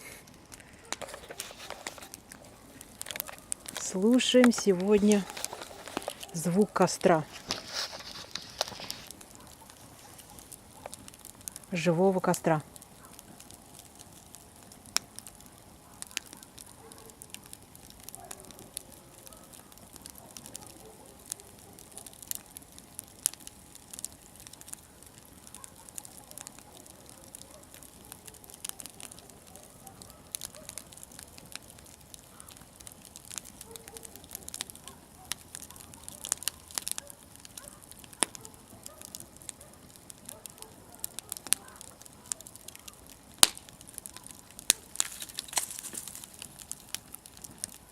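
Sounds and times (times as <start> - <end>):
campfire crackling and popping: 0.0 - 47.9
faint hiss of burning: 0.0 - 47.9.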